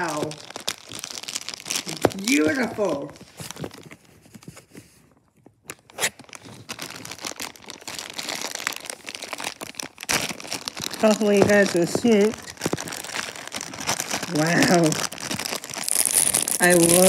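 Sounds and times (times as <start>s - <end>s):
plastic and cardboard crinkling: 0.0s - 17.0s.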